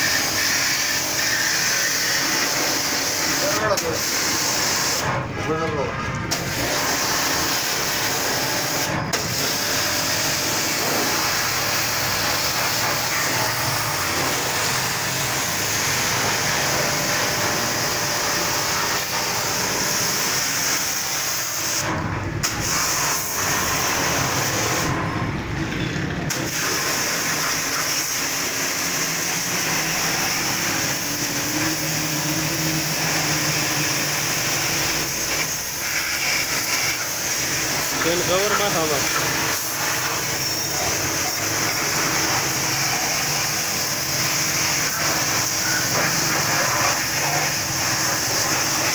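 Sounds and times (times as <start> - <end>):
pressure washer spray hissing: 0.0 - 5.1, 6.3 - 25.0, 26.3 - 48.9.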